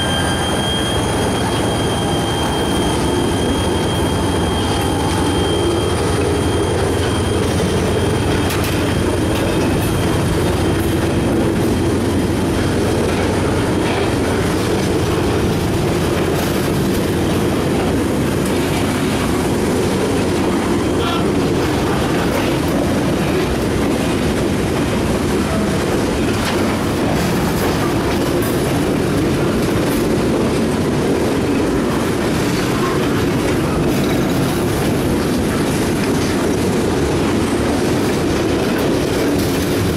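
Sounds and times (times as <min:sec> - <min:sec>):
train wheels rumbling on rails: 0:00.0 - 0:39.9
wheels clacking on rails: 0:00.0 - 0:39.9.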